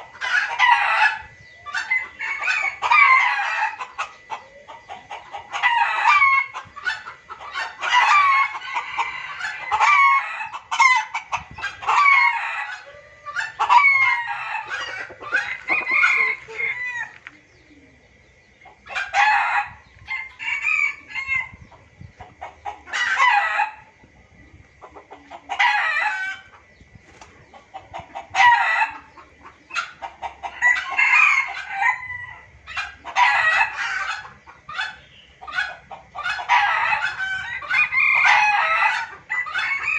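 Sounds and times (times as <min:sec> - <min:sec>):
junglefowl crowing and clucking: 0:00.0 - 0:39.9.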